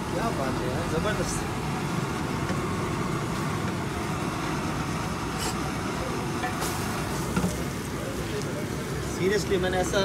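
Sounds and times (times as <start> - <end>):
omelette frying hiss: 0.1 - 10.0.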